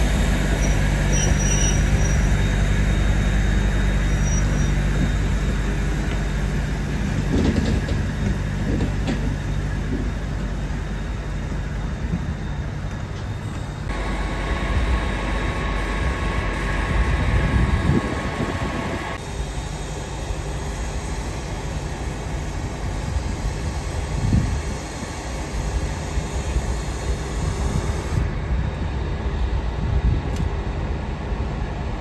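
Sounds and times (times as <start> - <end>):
diesel locomotive engine rumble: 0.0 - 32.0
steady whine: 0.0 - 32.0.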